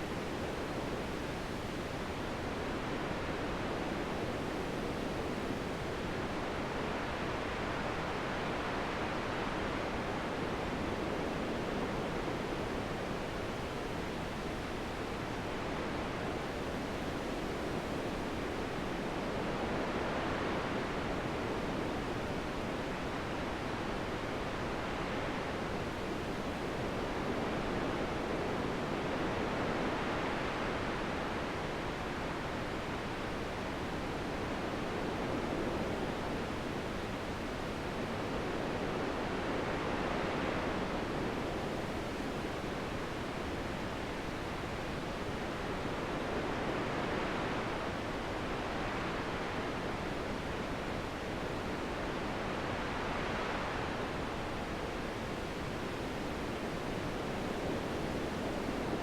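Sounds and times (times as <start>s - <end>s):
wind blowing in gusts: 0.0s - 59.0s.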